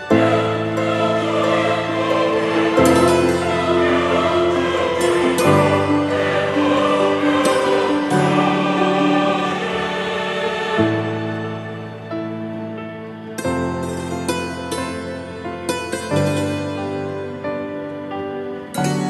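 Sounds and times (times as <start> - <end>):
choir-like voices holding chords: 0.0 - 19.0.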